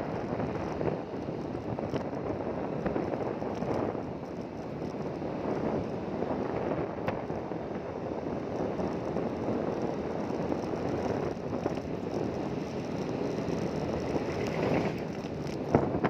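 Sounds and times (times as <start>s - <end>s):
road or water noise: 0.0s - 16.0s
rushing wind: 0.0s - 16.0s
vehicle engine running: 2.4s - 16.0s.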